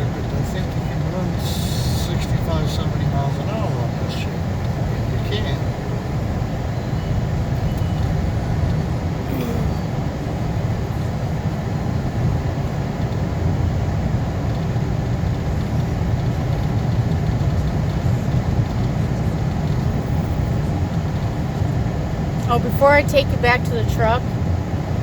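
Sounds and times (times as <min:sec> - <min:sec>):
vehicle road rumble: 0:00.0 - 0:25.0.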